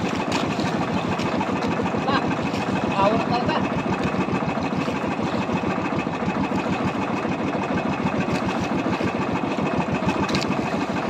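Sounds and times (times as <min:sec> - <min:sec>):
boat engine pulsing: 0:00.0 - 0:11.0.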